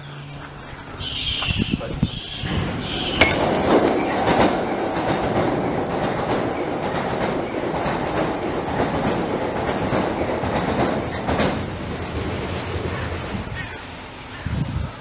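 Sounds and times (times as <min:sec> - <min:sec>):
train passing: 0:00.0 - 0:14.4.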